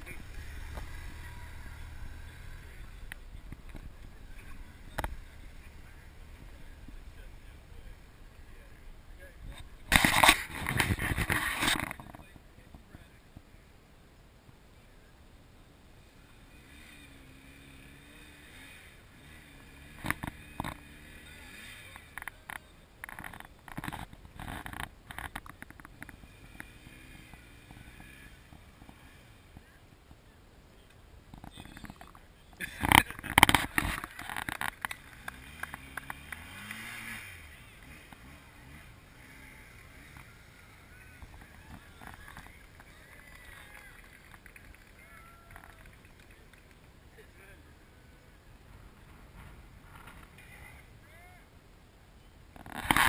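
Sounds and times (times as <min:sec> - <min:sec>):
faint motorcycle engine: 0:00.0 - 0:53.0.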